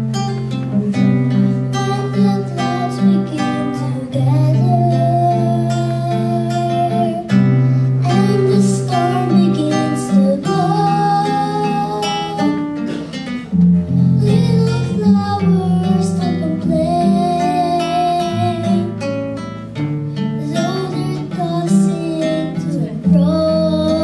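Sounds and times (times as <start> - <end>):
held melody line: 0.0 - 12.8, 13.4 - 24.0
strummed acoustic guitar: 0.0 - 24.0.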